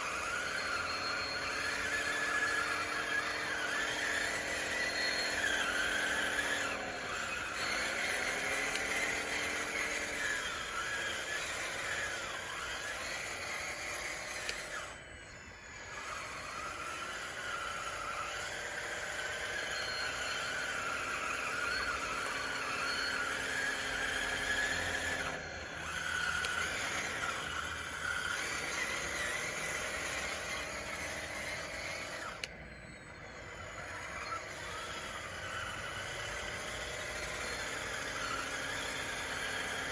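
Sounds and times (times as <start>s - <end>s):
toy bulldozer motor whine: 0.0s - 39.9s.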